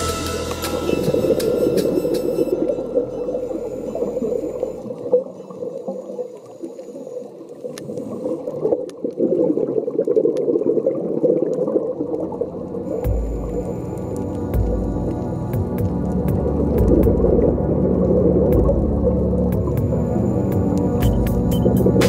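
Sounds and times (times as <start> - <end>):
underwater churning gurgling: 1.0 - 21.0.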